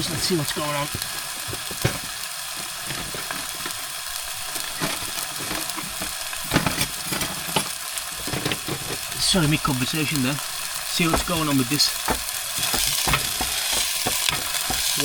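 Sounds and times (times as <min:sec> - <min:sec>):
burgers sizzling in a pan: 0:00.0 - 0:15.0.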